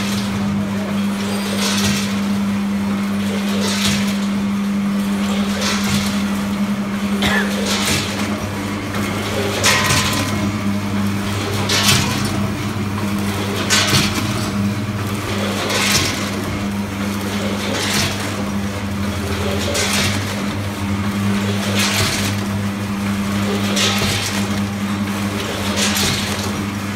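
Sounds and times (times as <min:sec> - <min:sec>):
packing machine humming: 0:00.0 - 0:26.9.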